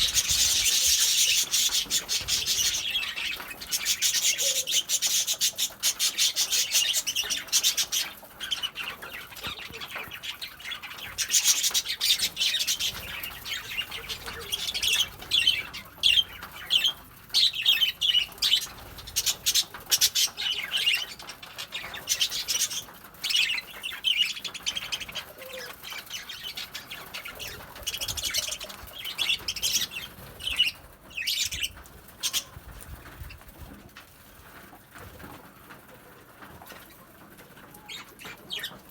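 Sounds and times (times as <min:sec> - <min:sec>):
lovebirds chattering shrill chirps: 0:00.0 - 0:33.4.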